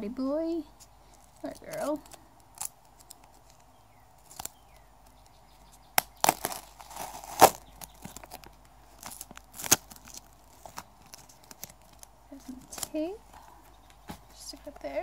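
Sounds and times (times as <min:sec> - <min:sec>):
paper towel crinkling and tearing: 0:00.8 - 0:13.2.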